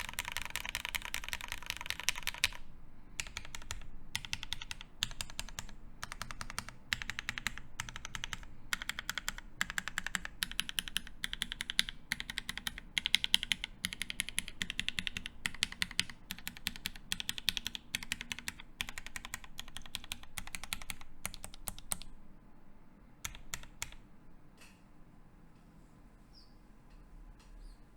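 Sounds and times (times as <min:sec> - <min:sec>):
mechanical keyboard typing: 0:00.0 - 0:22.2, 0:23.2 - 0:24.0.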